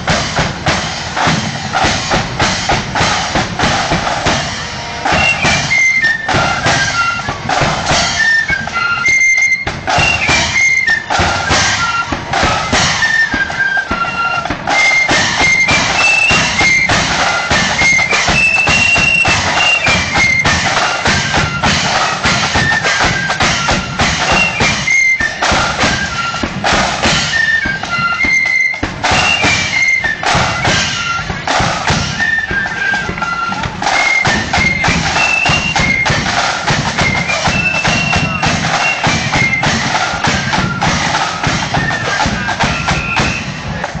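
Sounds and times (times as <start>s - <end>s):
flutes playing shrill melody: 0.0s - 44.0s
snare and bass drumming: 0.0s - 44.0s.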